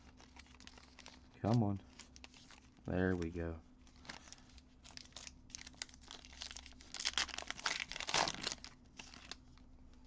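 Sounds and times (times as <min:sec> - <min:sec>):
plastic wrapper tearing and crinkling: 0:00.0 - 0:09.6.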